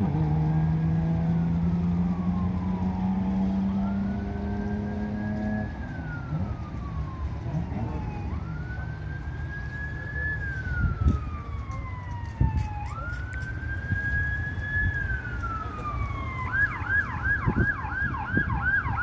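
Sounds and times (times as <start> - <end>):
siren wailing and yelping: 0.9 - 19.0.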